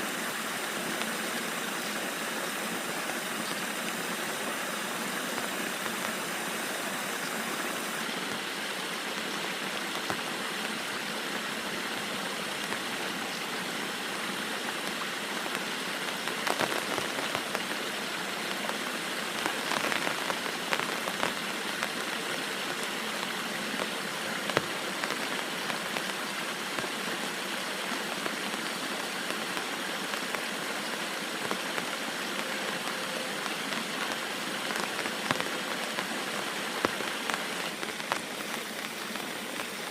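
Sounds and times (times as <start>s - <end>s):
steady rain falling: 0.0s - 39.9s
raindrops tapping: 0.1s - 39.9s.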